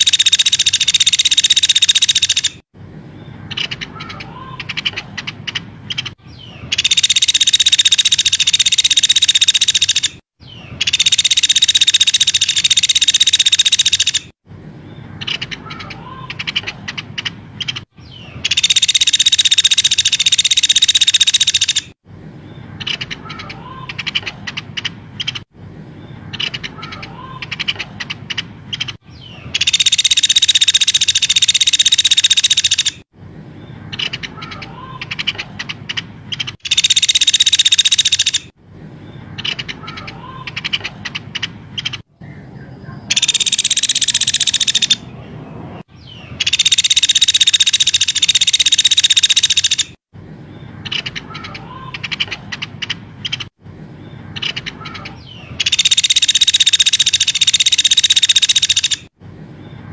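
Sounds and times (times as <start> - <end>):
high buzzing bird trills: 0.0 - 2.6, 3.3 - 59.8
songbirds chirping and whistling: 0.0 - 59.9.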